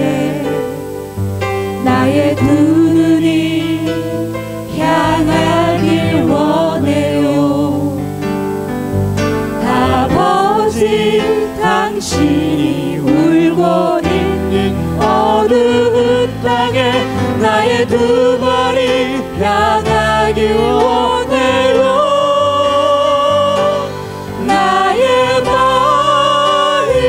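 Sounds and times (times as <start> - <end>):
instrumental accompaniment: 0.0 - 27.0
mixed choir singing worship song: 0.0 - 27.0.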